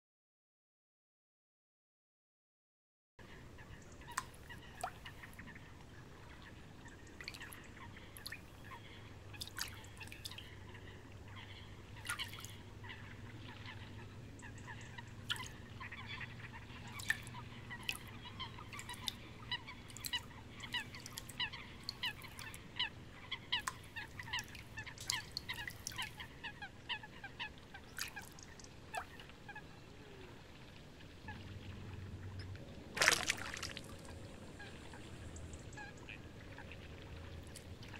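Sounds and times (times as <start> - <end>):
faint low hum: 3.2 - 37.9.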